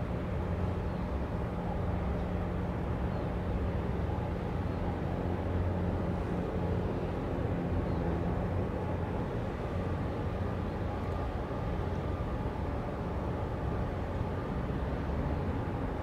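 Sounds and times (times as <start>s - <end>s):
ship engine drone: 0.0s - 16.0s.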